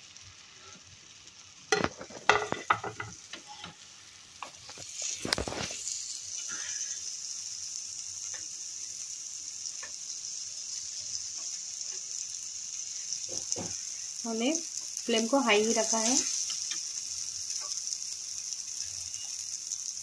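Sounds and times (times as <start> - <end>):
cutlets sizzling in butter: 0.0 - 20.0.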